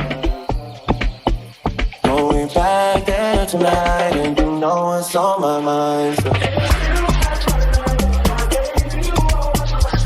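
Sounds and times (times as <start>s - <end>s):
instrumental dance music: 0.0s - 10.0s.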